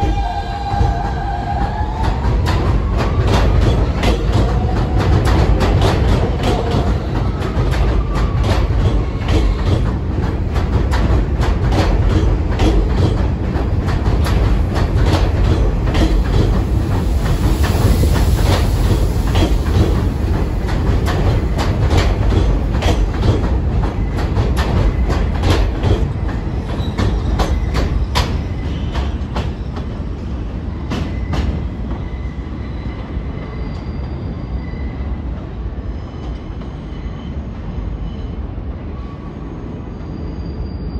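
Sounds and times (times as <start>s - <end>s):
subway wheels clacking over rail joints: 0.0s - 40.9s
train rumble: 0.0s - 40.9s.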